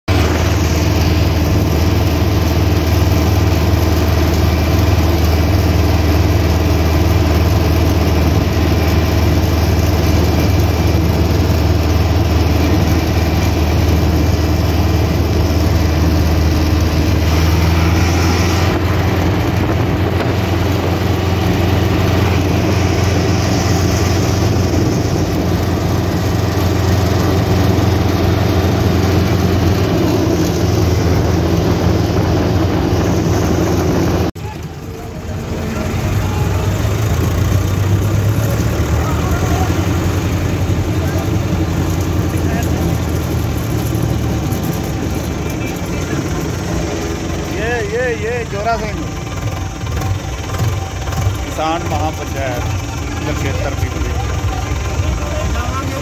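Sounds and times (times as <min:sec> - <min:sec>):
tractor diesel engine drone: 0:00.0 - 0:56.0.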